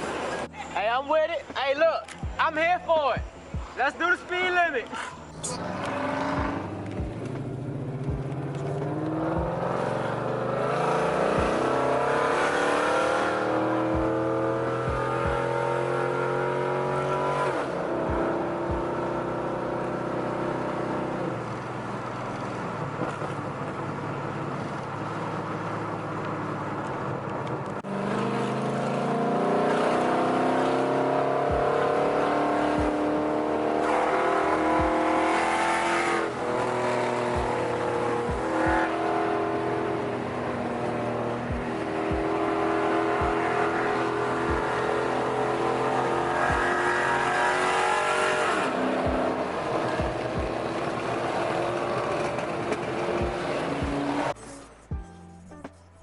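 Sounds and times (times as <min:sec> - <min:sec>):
car engine accelerating: 0:03.5 - 0:55.2.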